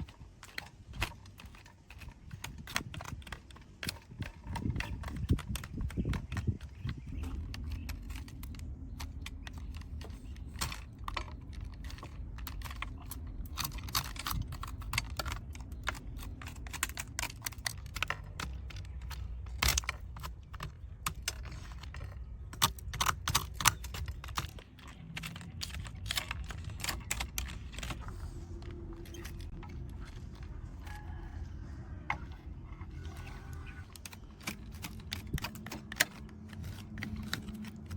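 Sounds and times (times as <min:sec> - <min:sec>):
small clicks of hard parts: 0:00.0 - 0:37.9.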